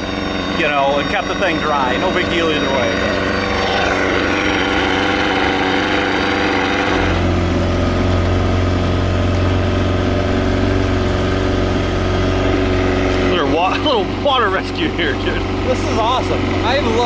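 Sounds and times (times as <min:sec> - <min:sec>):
small boat motor droning: 0:00.0 - 0:17.0.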